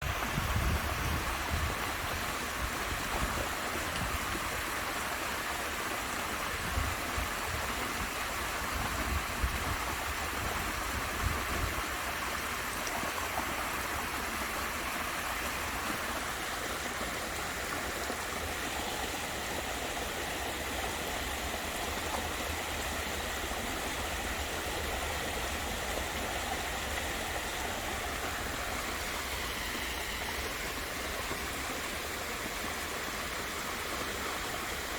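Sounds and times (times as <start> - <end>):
waterfall splashing and rushing: 0.0 - 34.9.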